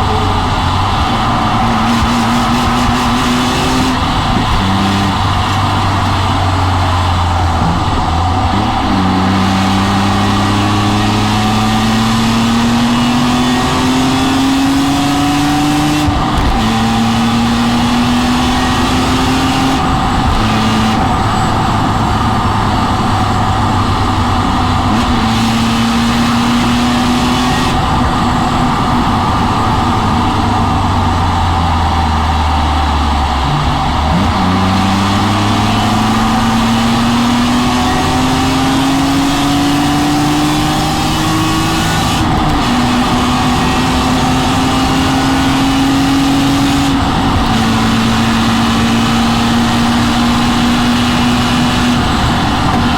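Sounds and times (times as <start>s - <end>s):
car engine accelerating: 0.0s - 52.9s
road and wind noise: 0.0s - 52.9s.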